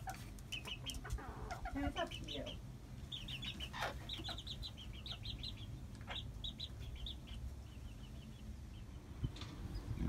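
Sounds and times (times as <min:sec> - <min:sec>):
chickens peeping: 0:00.0 - 0:10.0.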